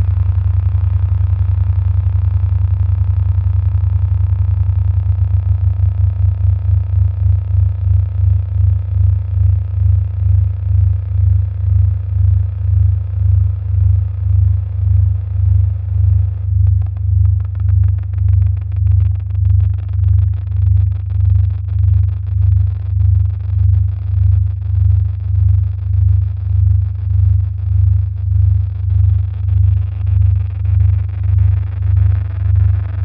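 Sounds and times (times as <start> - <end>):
deep bass drone: 0.0 - 33.0
faint crackling and ticking: 0.0 - 33.0.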